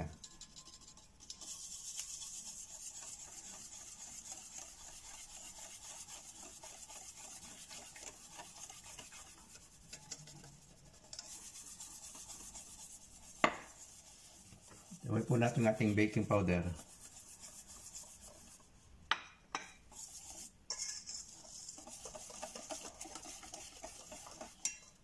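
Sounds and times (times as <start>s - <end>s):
whisk rattling in metal bowl: 0.0s - 25.0s.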